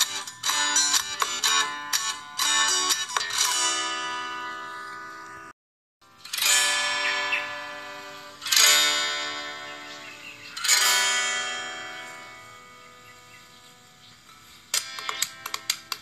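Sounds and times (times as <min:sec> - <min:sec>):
plucked-string chords: 0:00.0 - 0:16.0.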